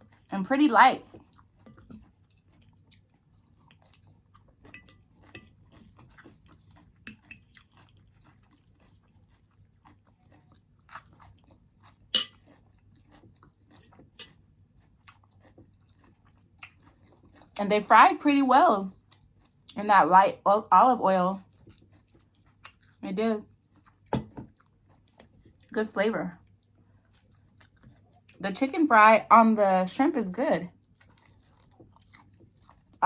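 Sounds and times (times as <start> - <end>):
chewing crunchy food: 0.0 - 0.4, 1.0 - 19.8, 21.3 - 28.4, 30.7 - 33.0.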